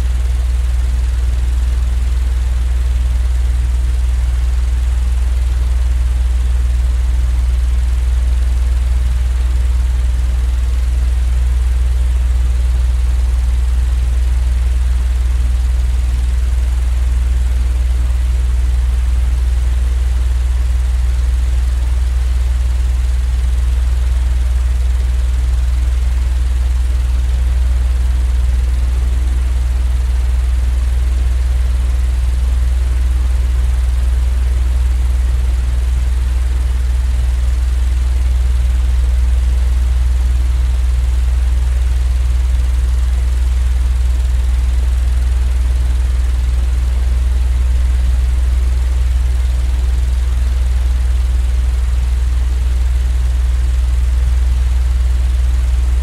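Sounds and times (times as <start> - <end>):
low machine hum drone: 0.0 - 22.8, 23.4 - 56.0.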